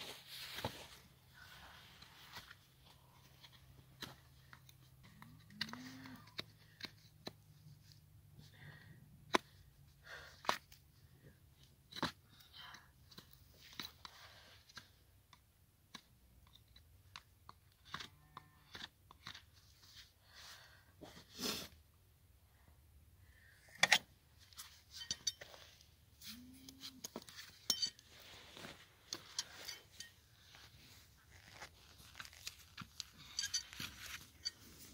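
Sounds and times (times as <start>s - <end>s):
knife scraping and crunching hoof: 0.0s - 8.0s, 11.8s - 15.0s, 15.9s - 21.8s, 23.6s - 34.9s.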